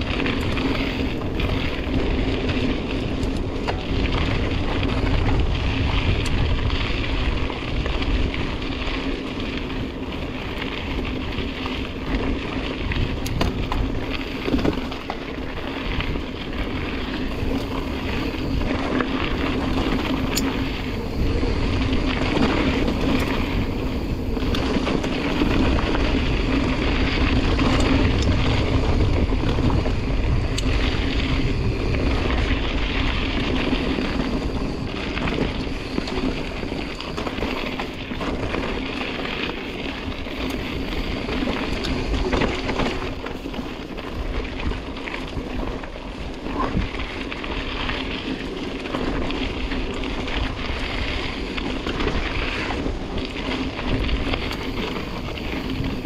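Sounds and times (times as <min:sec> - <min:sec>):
bike knocking and rattling: 0:00.0 - 0:56.0
wind rushing over microphone: 0:00.0 - 0:56.0.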